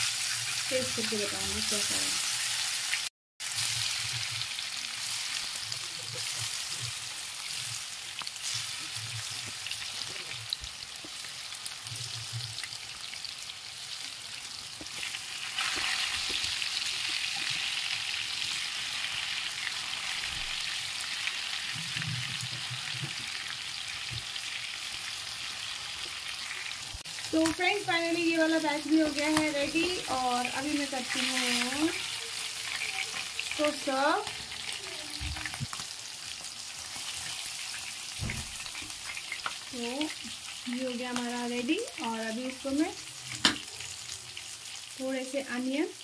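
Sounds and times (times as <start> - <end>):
fish sizzling in hot oil: 0.0 - 46.0.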